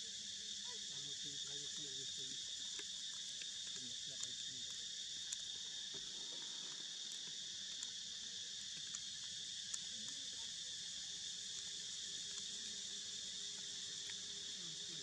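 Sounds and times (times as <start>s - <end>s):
insects buzzing: 0.0s - 15.0s
faint ticks: 1.8s - 14.7s.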